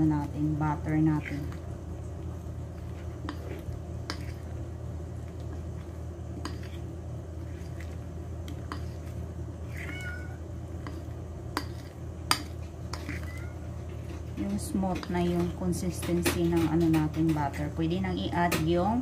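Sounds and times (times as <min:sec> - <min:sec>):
utensil stirring batter in bowl: 0:00.0 - 0:10.0, 0:10.6 - 0:17.9
steady low hum: 0:00.0 - 0:19.0.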